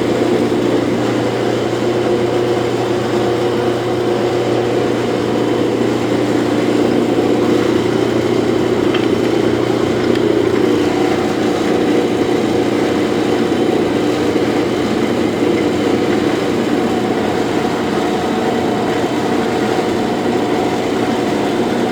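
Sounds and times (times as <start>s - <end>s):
electrical hum: 0.0s - 21.9s
lathe gear whine: 0.0s - 21.9s.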